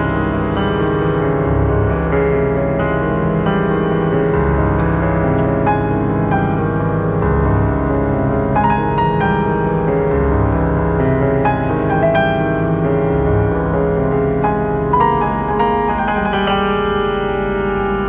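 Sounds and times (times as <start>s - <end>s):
low bass notes: 0.0s - 17.5s
piano notes and chords: 0.0s - 18.0s.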